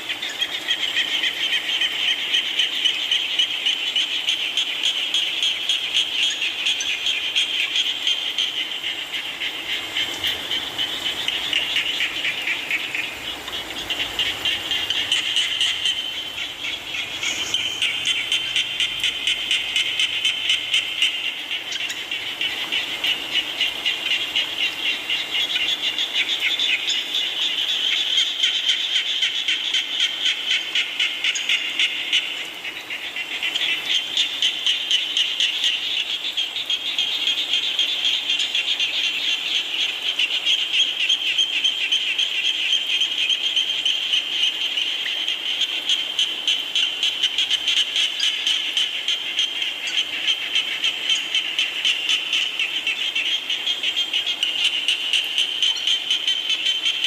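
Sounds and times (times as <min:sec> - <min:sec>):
chorus of frogs calling: 0:00.0 - 0:57.0.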